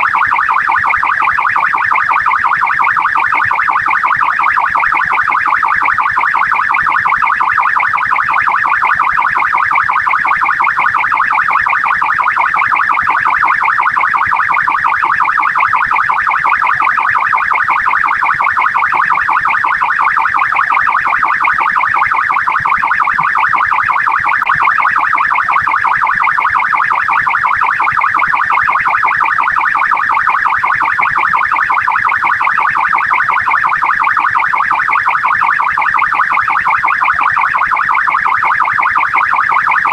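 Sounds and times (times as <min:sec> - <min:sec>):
police car siren warbling: 0:00.0 - 0:39.9.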